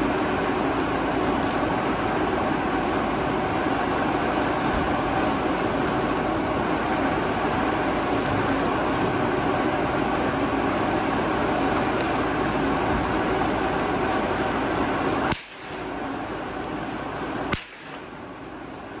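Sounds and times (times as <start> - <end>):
blower fans rushing air: 0.0 - 19.0.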